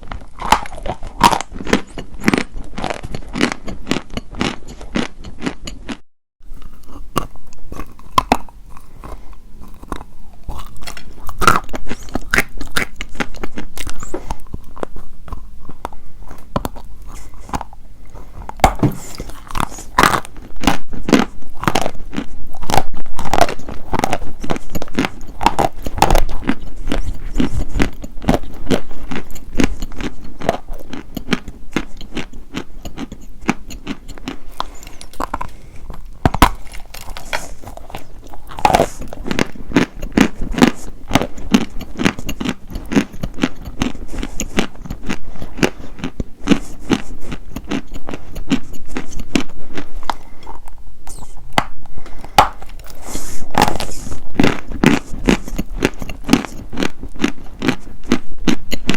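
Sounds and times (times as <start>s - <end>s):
chalk being chewed crunching: 0.0s - 58.9s.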